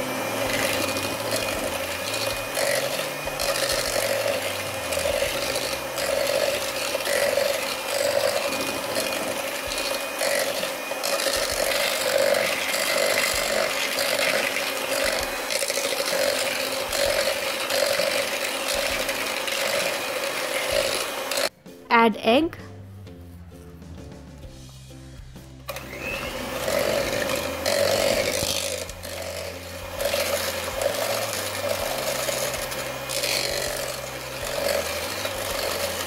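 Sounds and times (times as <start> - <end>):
beaters scraping in bowl: 0.0 - 21.5, 25.7 - 36.0
electric hand mixer running: 0.0 - 21.7, 25.6 - 36.0.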